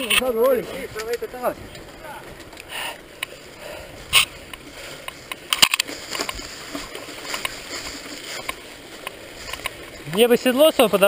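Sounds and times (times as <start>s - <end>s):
bike clattering on dirt trail: 0.0s - 11.0s
bike tyres rolling: 0.0s - 11.0s.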